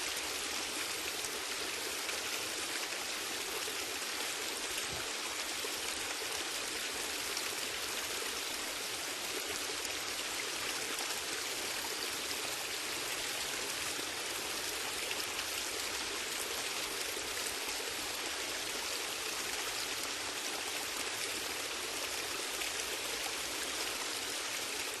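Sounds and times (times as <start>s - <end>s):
gentle rain falling: 0.0s - 25.0s.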